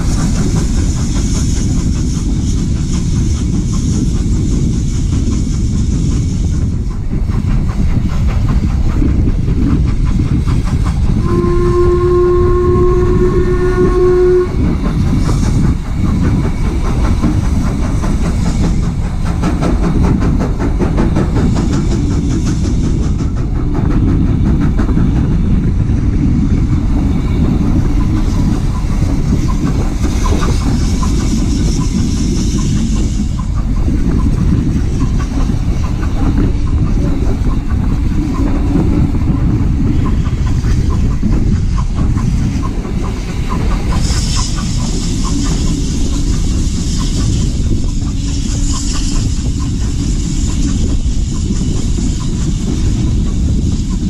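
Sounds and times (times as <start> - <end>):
hiss: 0.0 - 54.0
train rumbling on track: 0.0 - 54.0.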